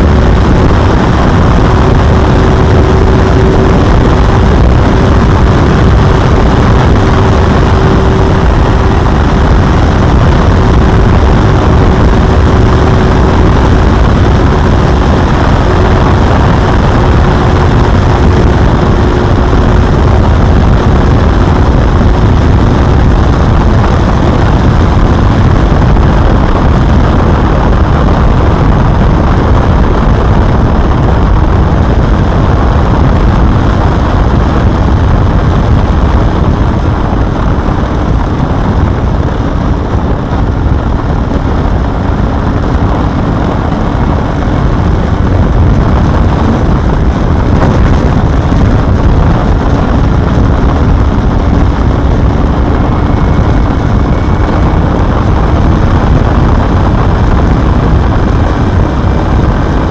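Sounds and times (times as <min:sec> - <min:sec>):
motorcycle engine running loud: 0:00.0 - 0:59.9.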